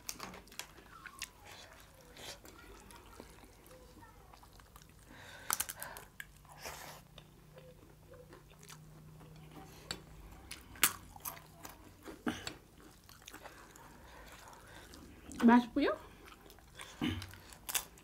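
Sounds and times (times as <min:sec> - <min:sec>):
people chewing and biting: 0:00.0 - 0:18.0.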